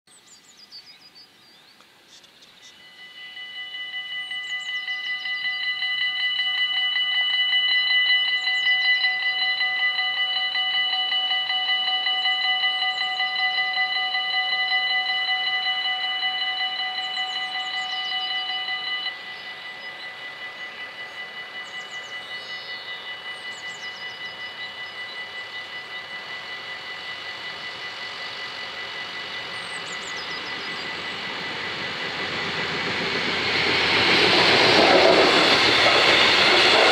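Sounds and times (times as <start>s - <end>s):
approaching train rushing: 2.6s - 36.9s
level crossing bells ringing: 2.8s - 36.9s.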